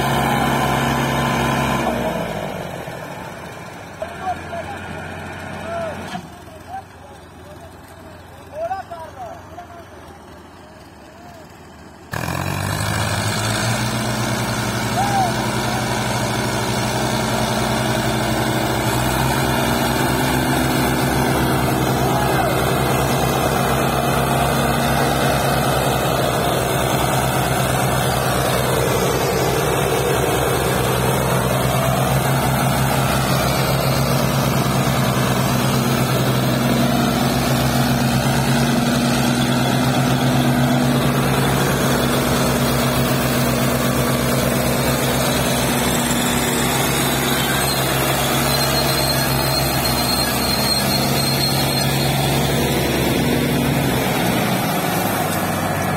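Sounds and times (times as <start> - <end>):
tractor diesel engines under load: 0.0 - 55.9.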